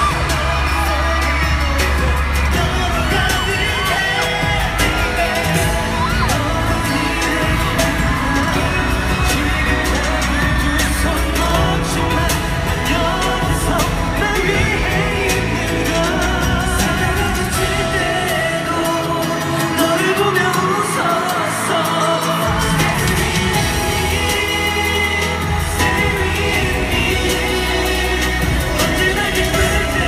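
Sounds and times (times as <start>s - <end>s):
man singing into microphone: 0.0s - 30.0s
pop backing music: 0.0s - 30.0s.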